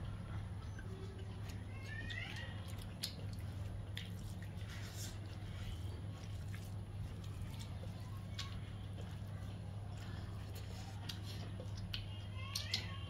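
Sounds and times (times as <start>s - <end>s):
mouth chewing: 0.0s - 13.0s.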